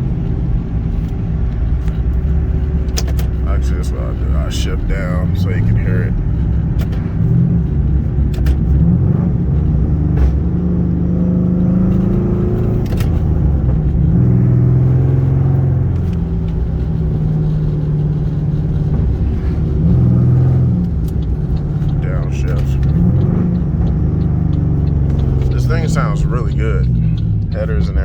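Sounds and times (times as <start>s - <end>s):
car engine revving from inside cabin: 0.0s - 28.0s.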